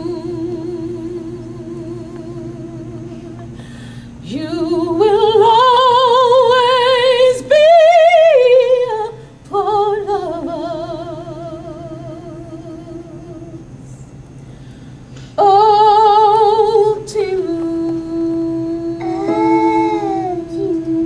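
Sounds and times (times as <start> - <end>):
woman singing with vibrato: 0.0 - 3.4, 4.2 - 13.7, 15.4 - 21.0.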